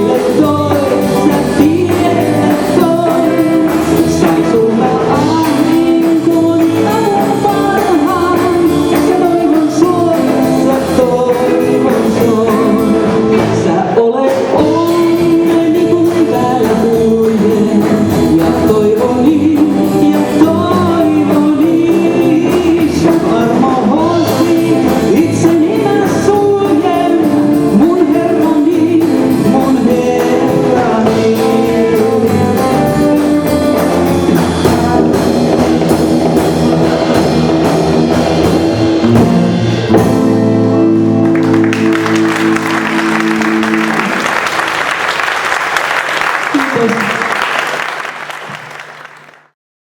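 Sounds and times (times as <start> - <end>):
person singing: 0.0 - 36.4, 41.3 - 45.0, 46.4 - 47.6
guitar accompaniment: 0.0 - 49.4.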